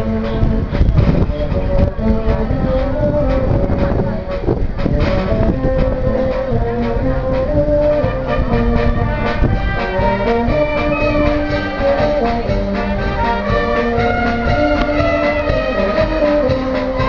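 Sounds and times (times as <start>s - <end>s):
steady drum beat: 0.0s - 17.0s
trumpets and trombones melody: 0.0s - 17.0s.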